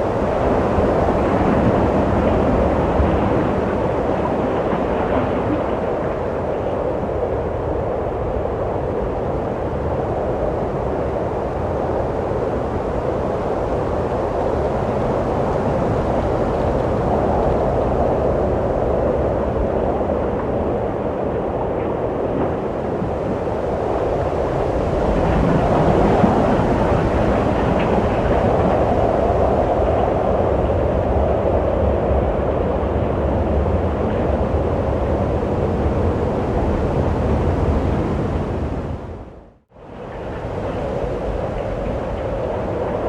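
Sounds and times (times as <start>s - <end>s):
rushing wind with low rumble: 0.0s - 43.0s.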